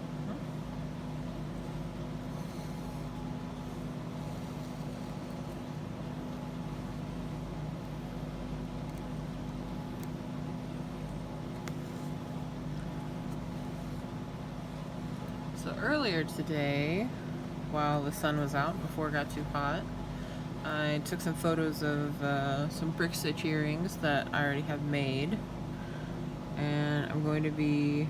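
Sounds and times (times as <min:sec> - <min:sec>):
fan rushing hum: 0:00.0 - 0:28.0.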